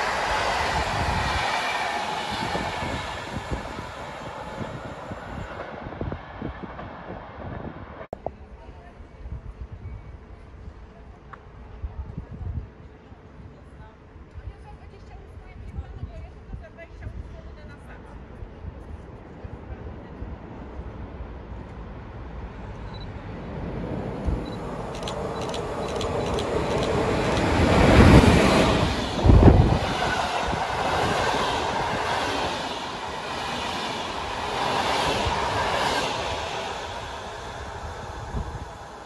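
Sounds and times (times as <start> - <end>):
passenger train passing at speed: 0.0 - 39.0.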